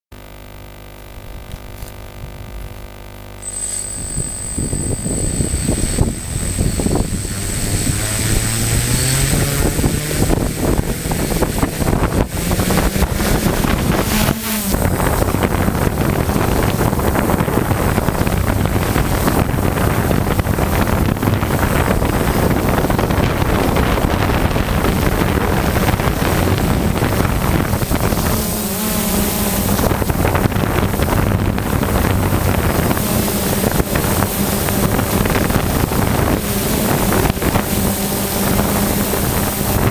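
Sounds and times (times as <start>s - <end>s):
drone motors buzzing: 0.2s - 39.9s
wind buffeting microphone: 4.0s - 39.9s.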